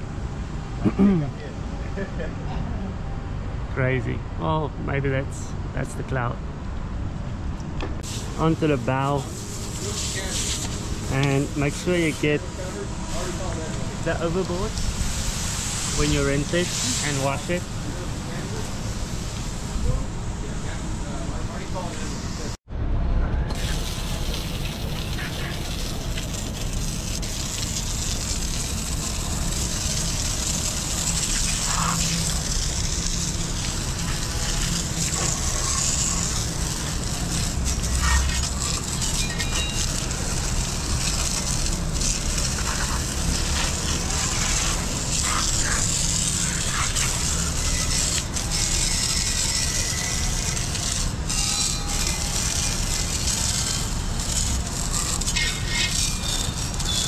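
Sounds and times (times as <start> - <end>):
hose spraying water on deck: 8.0 - 22.6, 23.5 - 57.0.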